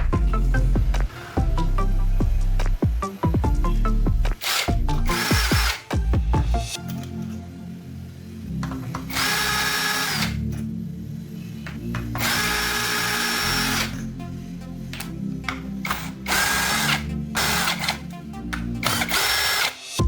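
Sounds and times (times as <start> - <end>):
background music: 0.0 - 20.0
power tool whining: 2.9 - 20.0.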